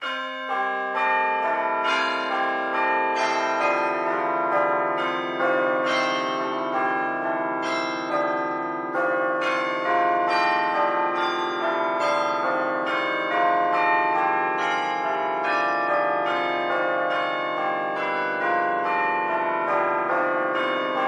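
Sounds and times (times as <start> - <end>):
clock tower bells ringing: 0.0 - 21.0.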